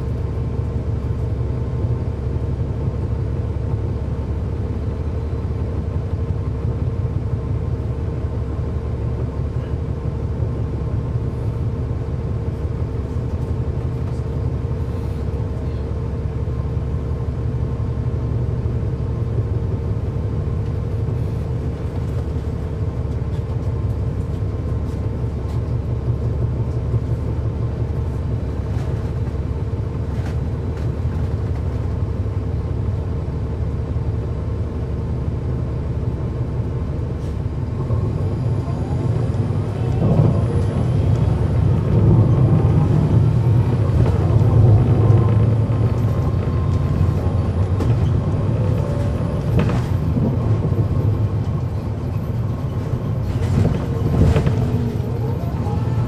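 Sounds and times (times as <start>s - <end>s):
bus diesel engine rumble: 0.0s - 56.0s.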